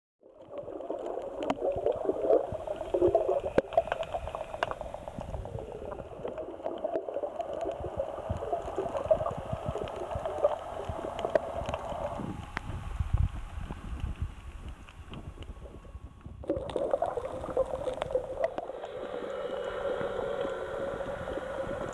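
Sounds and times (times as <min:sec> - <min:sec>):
underwater moving water: 0:00.2 - 0:21.9
sharp underwater clicks: 0:00.8 - 0:05.5, 0:06.3 - 0:20.6.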